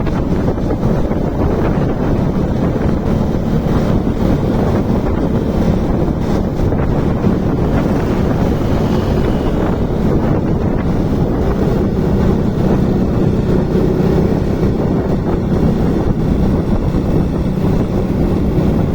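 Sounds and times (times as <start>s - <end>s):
motorcycle engine running: 0.0s - 18.9s
wind rushing over microphone: 0.0s - 18.9s.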